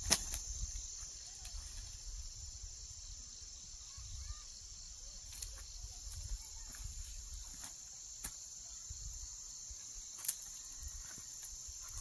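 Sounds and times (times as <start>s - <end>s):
high-pitched insect chorus: 0.0s - 12.0s
faint chirps: 0.6s - 12.0s.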